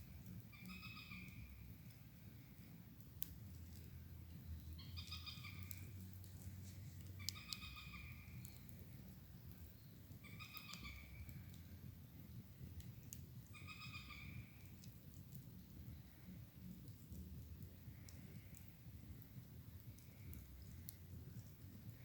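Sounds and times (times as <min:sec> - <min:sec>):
sharp crackles: 0:00.0 - 0:22.0
faint bird calls: 0:00.4 - 0:02.8, 0:04.7 - 0:11.8, 0:12.4 - 0:16.7, 0:17.7 - 0:22.0.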